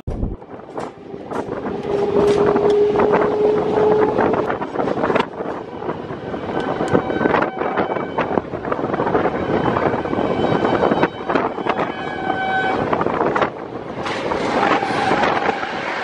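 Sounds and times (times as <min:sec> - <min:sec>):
dense train rumble: 0:00.0 - 0:16.0
wind buffeting microphone: 0:00.0 - 0:16.0.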